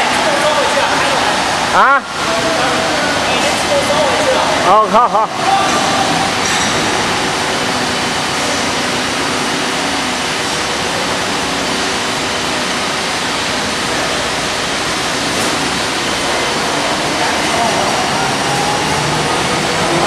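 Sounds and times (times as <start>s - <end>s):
machinery rushing: 0.0s - 20.0s.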